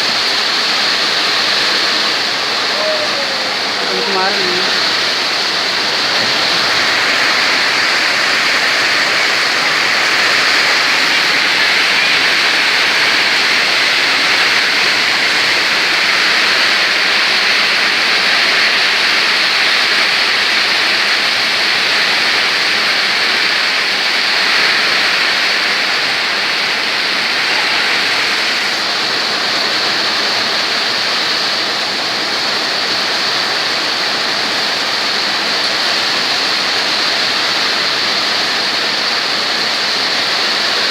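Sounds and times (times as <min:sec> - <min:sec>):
heavy rain pouring: 0:00.0 - 0:40.9
strong wind: 0:00.0 - 0:40.9.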